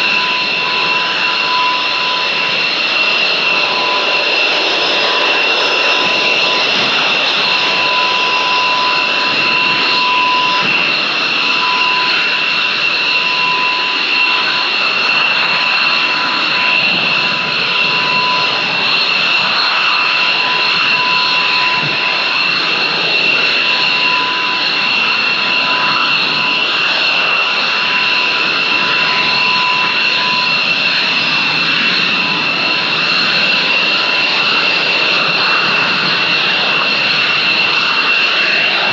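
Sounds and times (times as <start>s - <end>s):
jet engines running with high whine: 0.0s - 38.9s.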